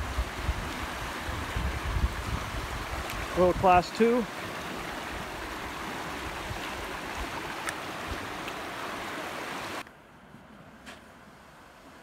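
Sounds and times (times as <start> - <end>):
river rapid rushing: 0.0 - 9.8.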